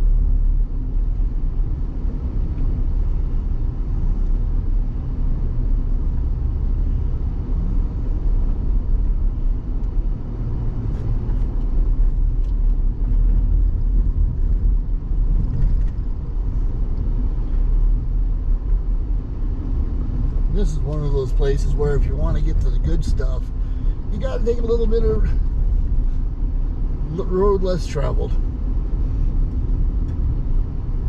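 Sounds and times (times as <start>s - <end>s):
vehicle rumbling on dirt road: 0.0s - 31.0s.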